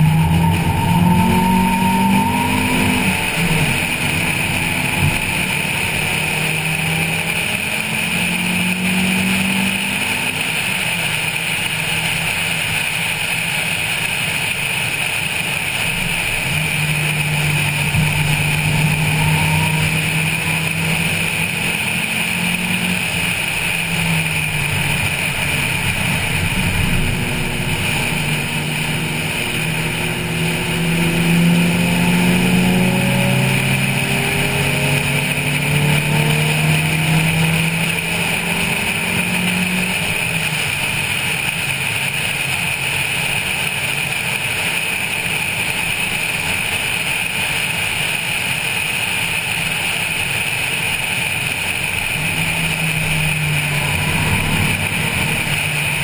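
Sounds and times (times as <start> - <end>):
car engine pulling hard: 0.0 - 56.0
wind and road noise: 0.0 - 56.0.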